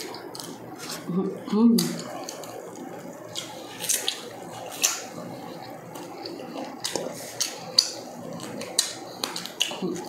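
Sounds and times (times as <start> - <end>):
wet chewing and lip-smacking: 1.8 - 10.0.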